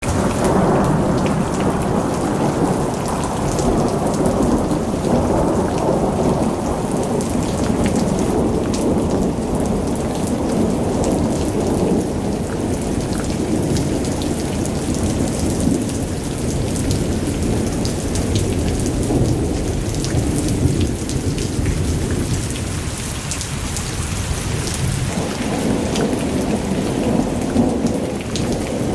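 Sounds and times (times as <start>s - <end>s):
deep thunder rumble: 0.0s - 28.9s
heavy rain pouring: 0.0s - 28.9s.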